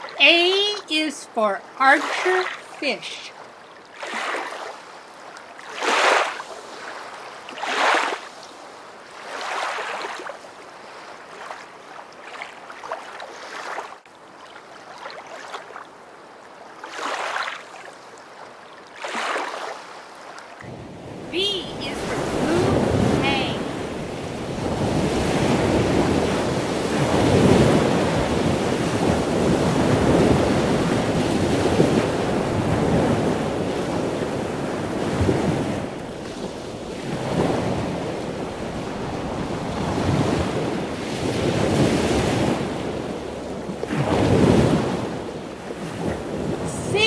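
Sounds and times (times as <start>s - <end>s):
waves breaking: 0.0s - 47.0s.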